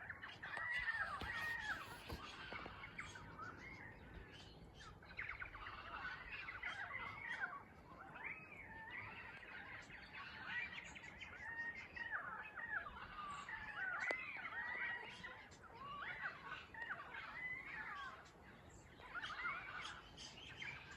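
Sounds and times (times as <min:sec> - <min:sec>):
bird chorus: 0:00.0 - 0:20.9
whistled bird calls: 0:00.0 - 0:20.9.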